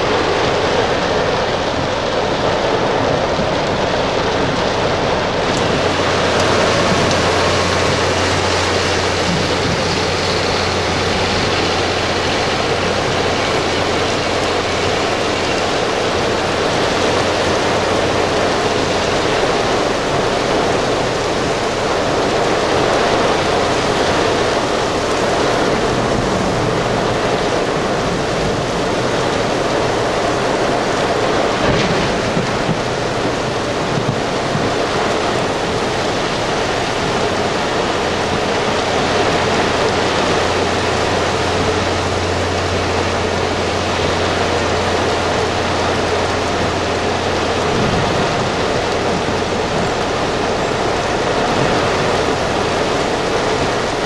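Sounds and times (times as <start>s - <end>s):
torrential rain: 0.0s - 54.0s.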